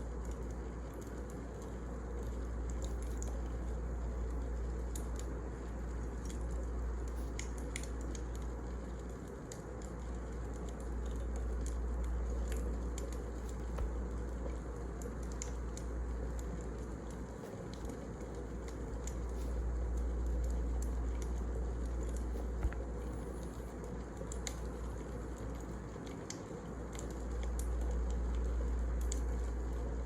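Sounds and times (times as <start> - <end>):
low rumble of flames: 0.0 - 30.0
fire crackling and popping: 0.1 - 30.0.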